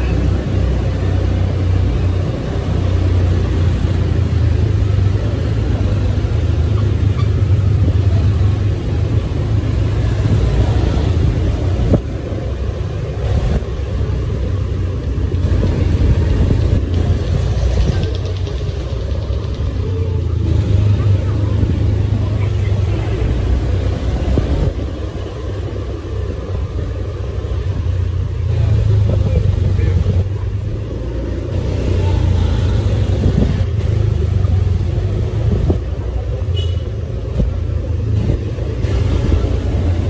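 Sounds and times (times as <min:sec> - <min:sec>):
vehicle engine and road rumble: 0:00.0 - 0:40.0.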